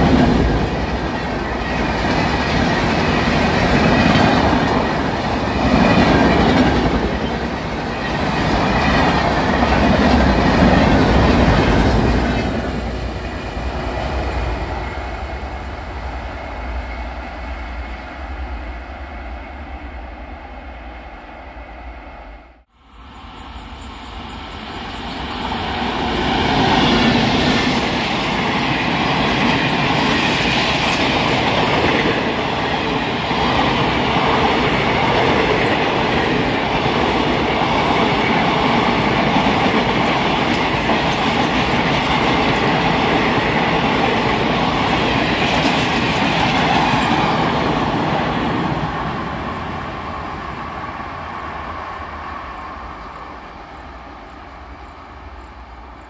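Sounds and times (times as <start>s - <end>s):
train wheels rolling on rails: 0.0s - 19.9s, 20.8s - 56.0s.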